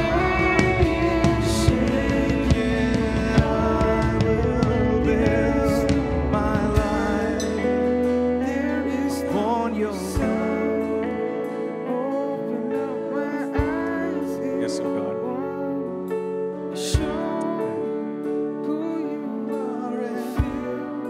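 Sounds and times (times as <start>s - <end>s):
electric guitar and bass: 0.0s - 21.0s
keyboard chords: 0.0s - 21.0s
person singing softly: 0.0s - 21.0s.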